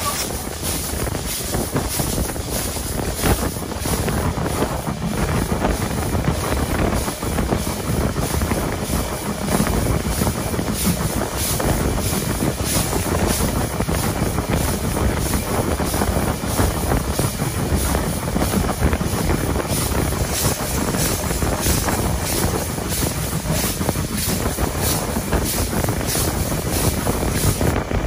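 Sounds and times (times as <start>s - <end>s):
steam locomotive pulsing hiss: 0.0s - 28.0s
train rumble: 0.0s - 28.0s
wind buffeting microphone: 0.0s - 28.0s.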